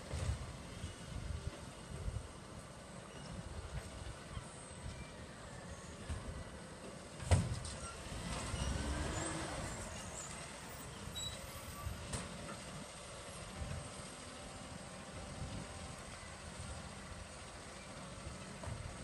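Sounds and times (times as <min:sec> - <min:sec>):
distant diesel engine: 0:00.0 - 0:19.0.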